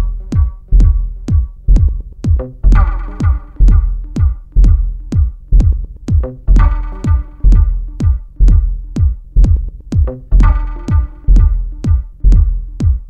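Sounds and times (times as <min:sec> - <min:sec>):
deep kick drum: 0:00.0 - 0:13.0.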